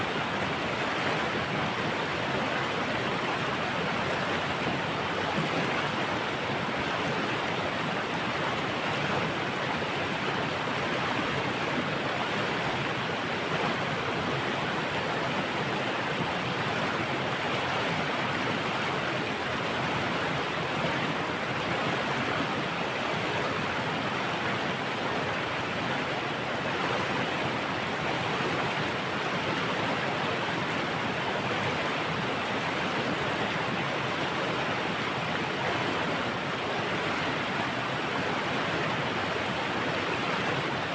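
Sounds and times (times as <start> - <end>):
water rushing: 0.0 - 40.9.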